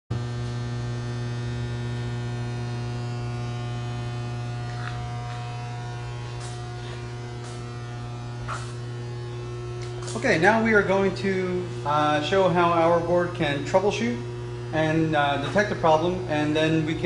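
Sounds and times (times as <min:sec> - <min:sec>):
buzzy electrical hum: 0:00.1 - 0:17.0.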